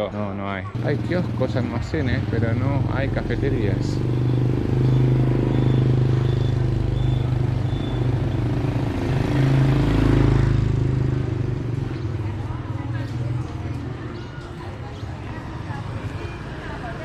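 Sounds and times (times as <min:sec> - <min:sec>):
vehicle engine droning: 0:00.8 - 0:17.0.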